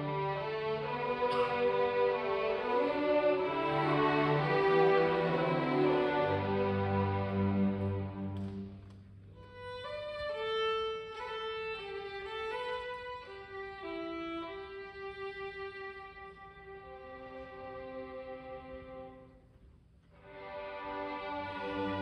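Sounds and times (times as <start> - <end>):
string orchestra playing: 0.0 - 22.0.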